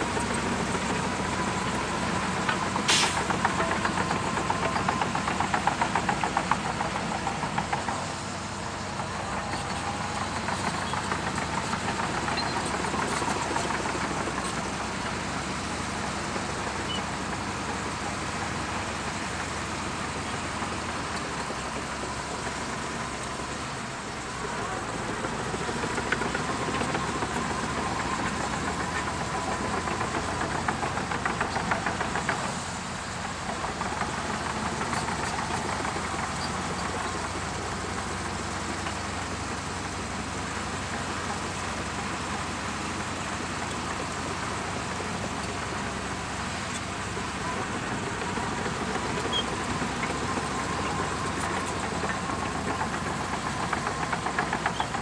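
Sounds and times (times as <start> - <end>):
bulldozer diesel engine knocking: 0.0 - 55.0.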